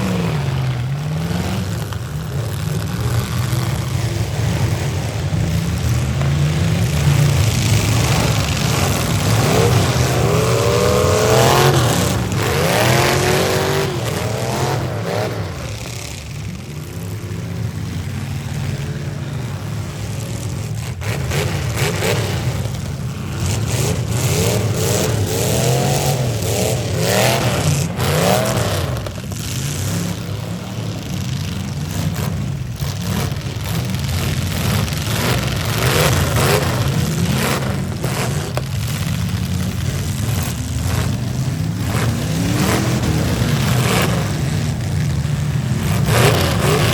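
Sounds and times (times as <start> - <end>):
car engines revving: 0.0 - 46.9.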